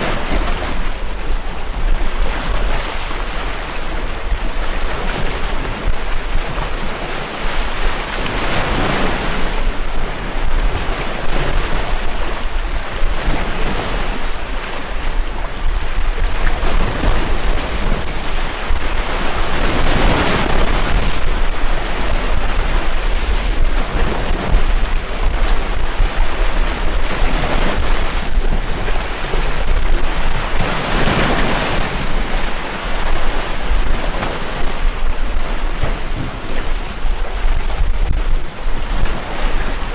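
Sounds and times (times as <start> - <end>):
waves breaking on rocky shore: 0.0 - 39.9
wind rumble on microphone: 0.0 - 39.9.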